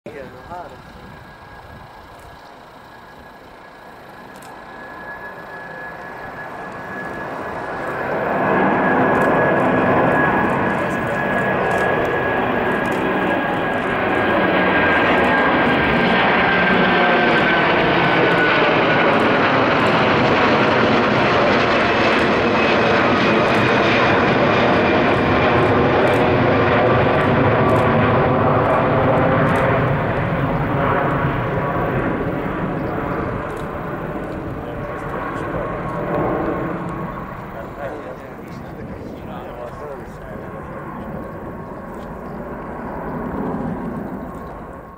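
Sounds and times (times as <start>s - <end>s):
high jet engine whine: 0.1s - 44.9s
jet engines roaring: 0.1s - 44.9s.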